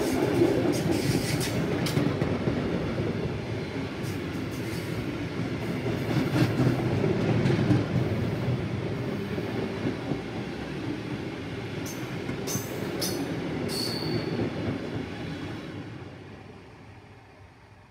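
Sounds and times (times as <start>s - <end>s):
freight train rumbling past: 0.0s - 17.9s.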